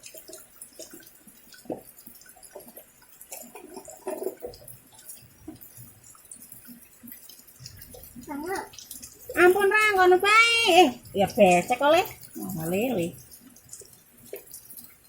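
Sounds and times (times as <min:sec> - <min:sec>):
rainwater dripping and splashing: 0:00.0 - 0:15.0.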